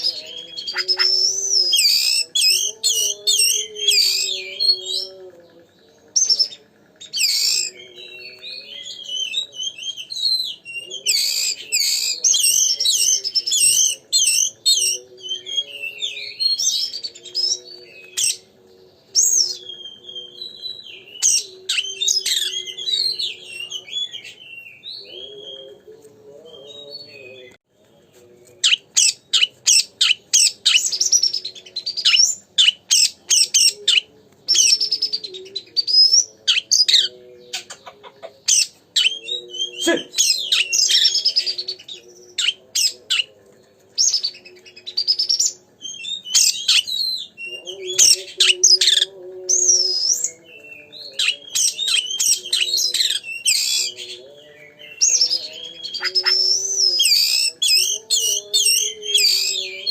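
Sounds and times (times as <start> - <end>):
bird singing chirps and whistles: 0.0 - 5.2, 6.0 - 25.9, 28.6 - 37.7, 38.5 - 43.3, 44.0 - 59.9.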